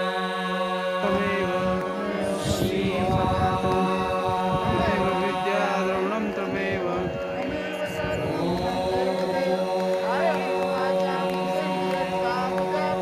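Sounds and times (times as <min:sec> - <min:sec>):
person chanting mantra: 0:00.0 - 0:13.0
steady drone: 0:00.0 - 0:13.0.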